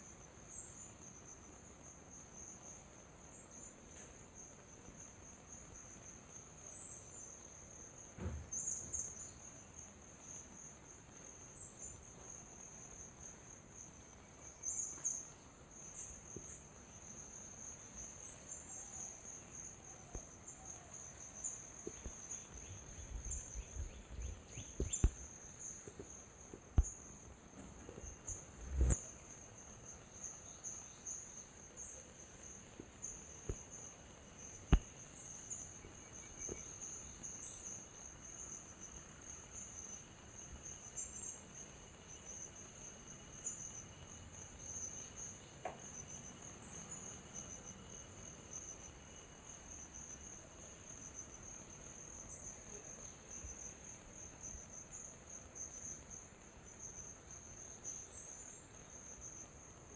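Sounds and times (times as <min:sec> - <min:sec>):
insect chorus chirring: 0:00.0 - 0:59.9.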